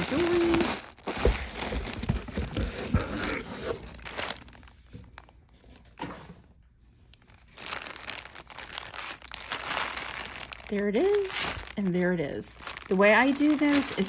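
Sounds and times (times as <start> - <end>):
packaging crinkling and rustling: 0.0 - 6.1, 6.9 - 14.0.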